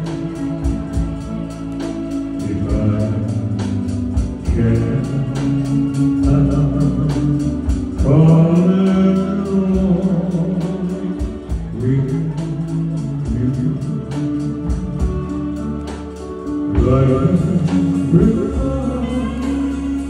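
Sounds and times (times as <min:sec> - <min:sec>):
organ: 0:00.0 - 0:20.0
steady drum beat: 0:00.0 - 0:20.0
man singing a ballad: 0:02.1 - 0:20.0.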